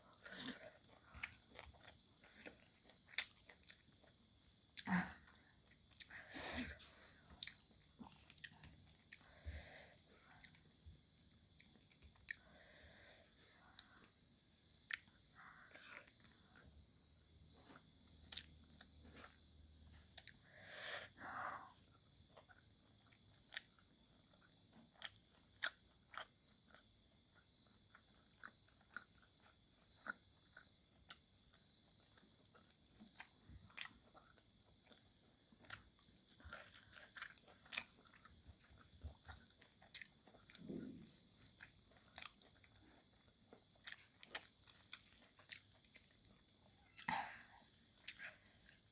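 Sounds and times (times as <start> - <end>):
insects chirring: 0.0 - 48.9
chewing clicks and smacks: 0.2 - 6.3, 6.9 - 20.6, 21.4 - 48.9.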